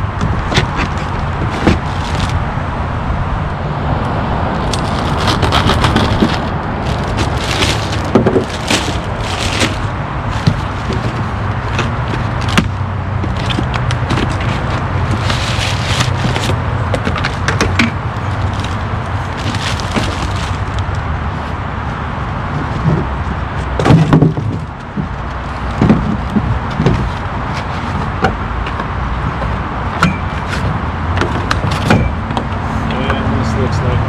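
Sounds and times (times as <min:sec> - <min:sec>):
freeway traffic hum: 0:00.0 - 0:34.0
parts and packaging handled: 0:00.2 - 0:02.4, 0:04.6 - 0:32.2.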